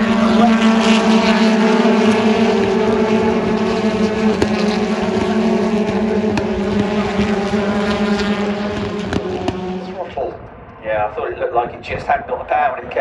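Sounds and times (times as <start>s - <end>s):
racing car engines at high revs: 0.0s - 10.5s
engine crackles: 0.0s - 10.8s.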